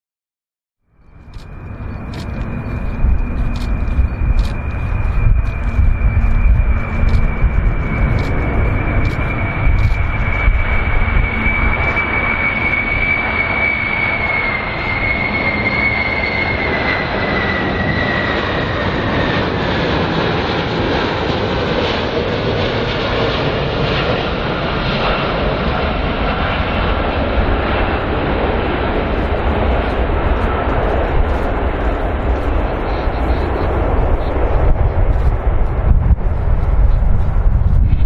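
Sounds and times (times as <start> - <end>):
jet engines whining: 1.0 - 38.0.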